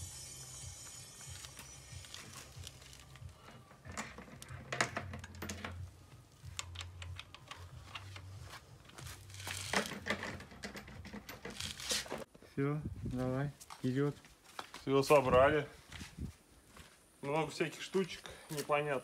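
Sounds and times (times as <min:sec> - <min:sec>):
rustling and crinkling: 0:01.2 - 0:12.4, 0:13.0 - 0:17.1.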